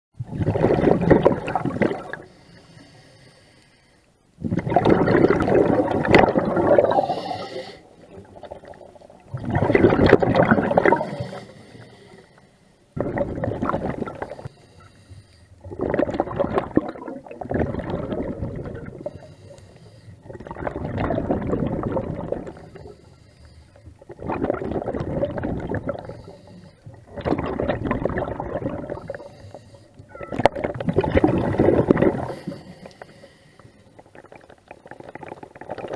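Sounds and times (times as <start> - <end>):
scuba diver exhaling bubbles: 0.2 - 2.4, 4.4 - 12.0, 13.0 - 14.6, 15.6 - 19.6, 20.2 - 23.0, 24.0 - 35.9.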